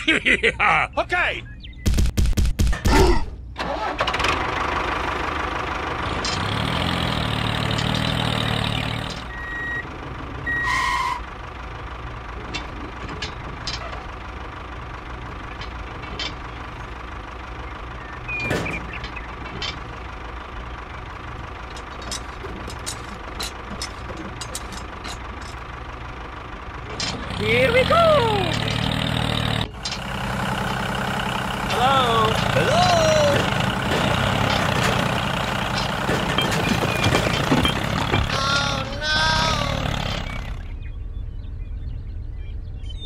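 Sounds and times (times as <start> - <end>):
tractor engine idling: 3.6 - 41.6.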